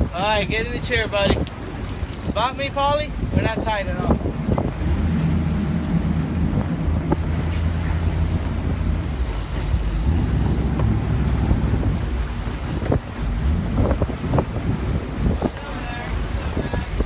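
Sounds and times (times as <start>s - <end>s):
boat engine droning: 0.0s - 17.0s
wind buffeting microphone: 0.0s - 17.0s.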